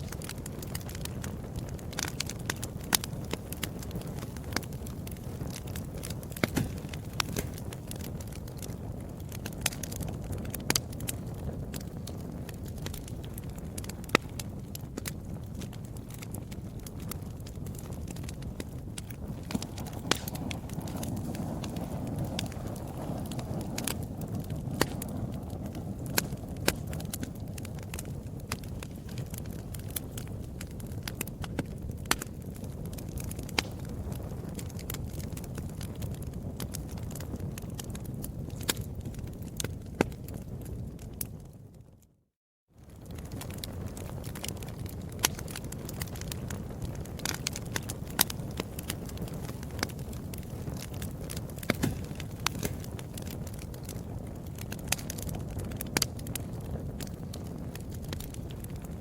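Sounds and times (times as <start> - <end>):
burning wood crackling and popping: 0.0 - 42.2, 42.8 - 59.0
wood fire burning: 0.0 - 59.0.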